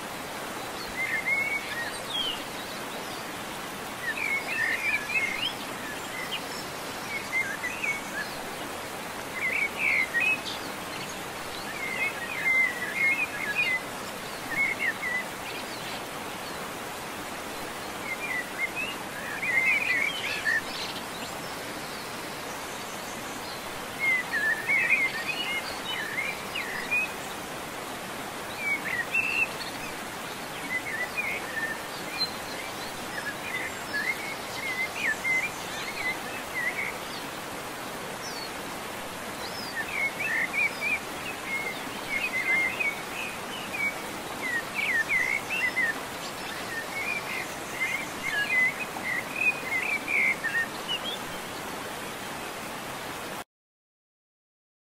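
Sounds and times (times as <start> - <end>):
steady background hiss: 0.0 - 53.4
small birds chirping: 0.1 - 53.3.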